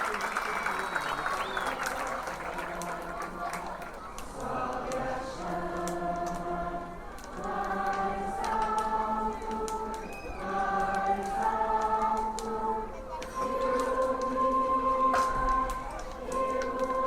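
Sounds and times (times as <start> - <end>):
group singing in chorus: 1.8 - 17.0.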